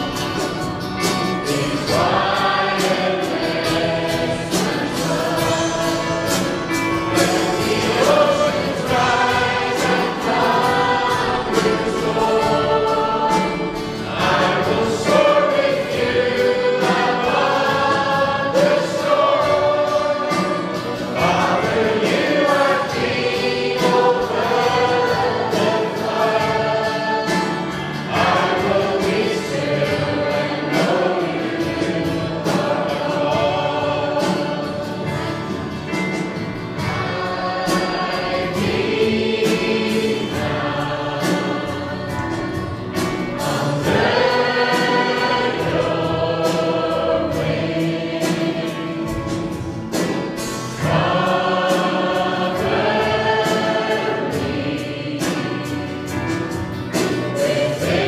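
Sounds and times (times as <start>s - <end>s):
choir singing gospel song: 0.0s - 58.0s.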